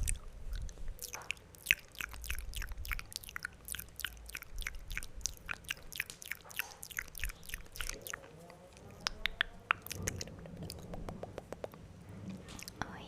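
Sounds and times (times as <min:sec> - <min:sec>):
tongue clicks: 0:00.0 - 0:11.8
lip smacks: 0:00.0 - 0:13.0.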